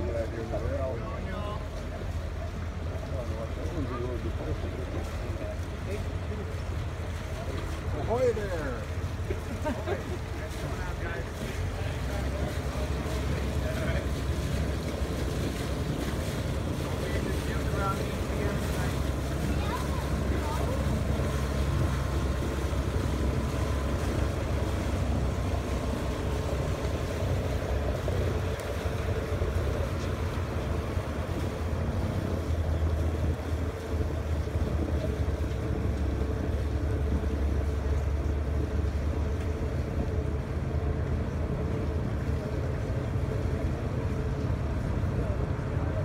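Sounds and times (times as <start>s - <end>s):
boat engine motoring: 0.0s - 46.0s
wind rumble on microphone: 0.0s - 46.0s.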